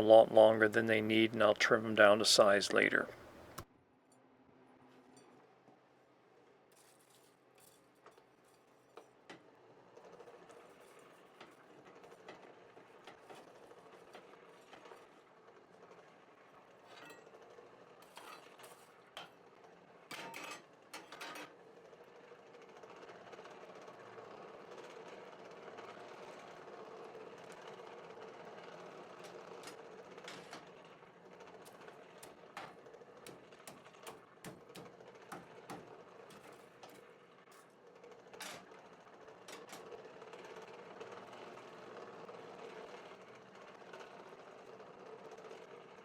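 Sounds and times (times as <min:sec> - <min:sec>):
faint mechanical hum: 0:00.0 - 0:46.0.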